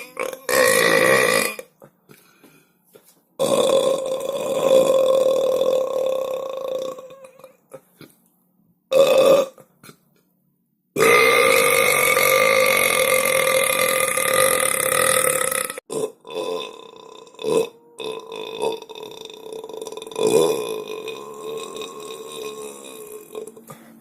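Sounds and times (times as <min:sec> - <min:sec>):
person burping: 0:00.0 - 0:01.9, 0:03.4 - 0:08.2, 0:08.9 - 0:10.1, 0:11.0 - 0:23.9.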